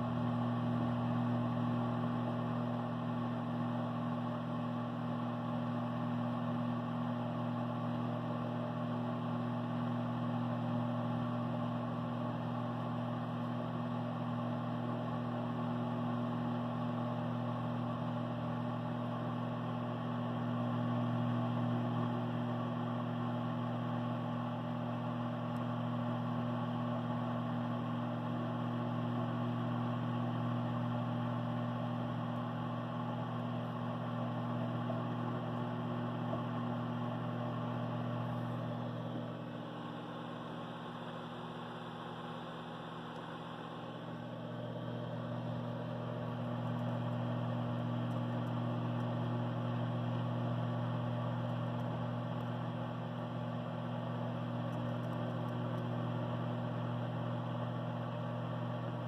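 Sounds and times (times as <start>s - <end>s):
microwave oven humming: 0.0s - 59.0s.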